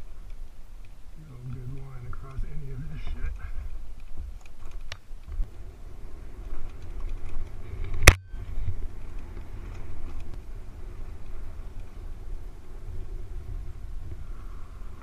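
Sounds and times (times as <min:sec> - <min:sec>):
motorcycle engine rumble: 0:00.0 - 0:15.0
wind buffeting microphone: 0:00.0 - 0:15.0.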